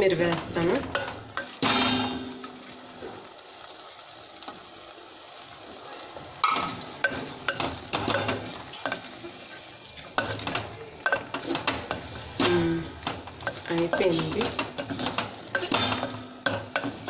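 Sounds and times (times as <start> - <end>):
curry sizzling: 0.0 - 17.0.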